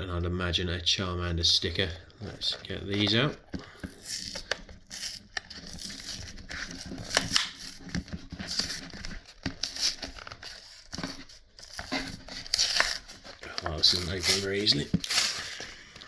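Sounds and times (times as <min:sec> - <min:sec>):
packaging tearing and crinkling: 0:01.8 - 0:16.0.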